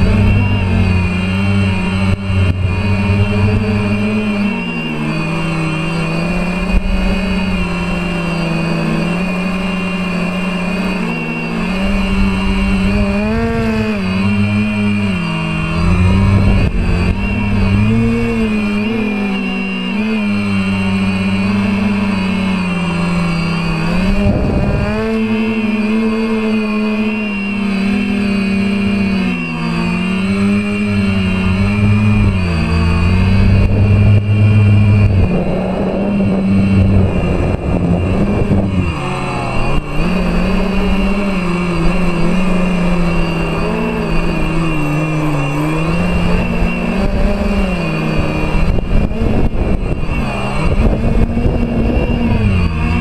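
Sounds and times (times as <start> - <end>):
quadcopter motors whining: 0.0 - 53.0
rushing wind: 0.0 - 53.0.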